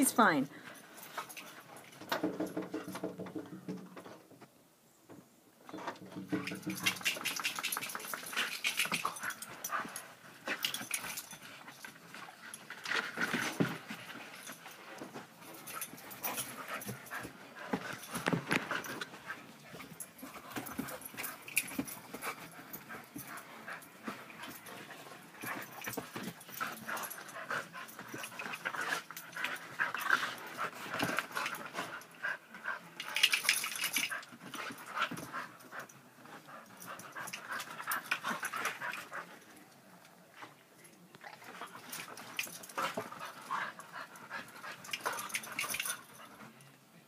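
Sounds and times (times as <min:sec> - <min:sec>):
dogs panting and scuffling: 0:00.0 - 0:04.6, 0:05.6 - 0:47.0.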